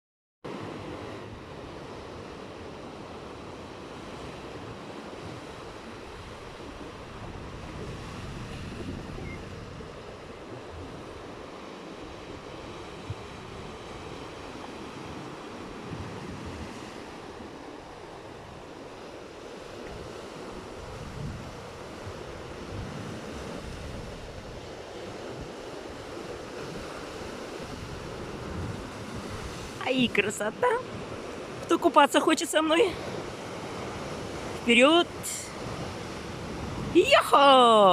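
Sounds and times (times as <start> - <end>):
sea waves washing onto shore: 0.5 - 37.9
wind rumbling on microphone: 0.6 - 31.7, 33.0 - 37.2.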